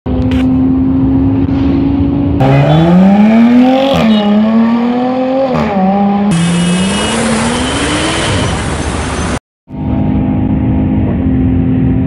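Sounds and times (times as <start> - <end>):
car engine drone: 0.1 - 12.0.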